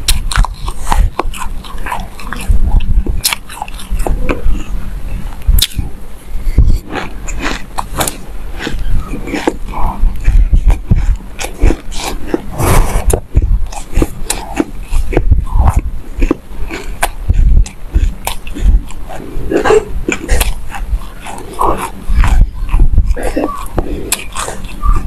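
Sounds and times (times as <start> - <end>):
chewing crunchy seeds: 0.0 - 25.0.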